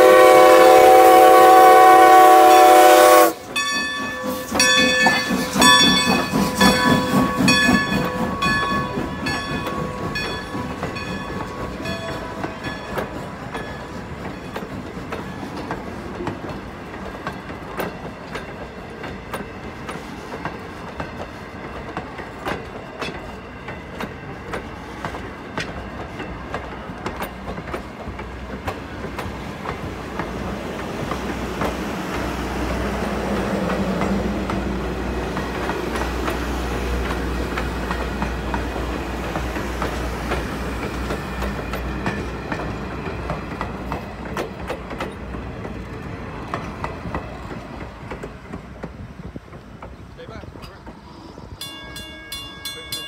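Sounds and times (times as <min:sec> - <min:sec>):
train coaches rumbling past: 0:00.0 - 0:53.0
wheels clicking over rail joints: 0:03.5 - 0:53.0.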